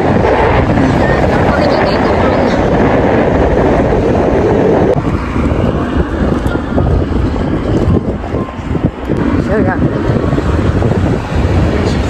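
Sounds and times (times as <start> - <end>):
vehicle road noise: 0.0 - 12.0
wind rushing over microphone: 0.0 - 12.0.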